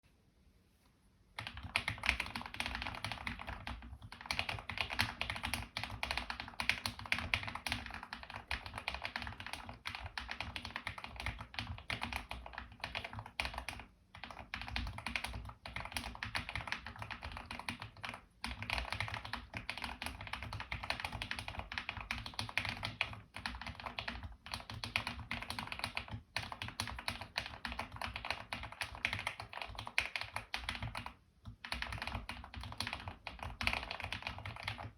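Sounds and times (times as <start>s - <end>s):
fast mechanical keyboard typing: 1.4s - 34.9s.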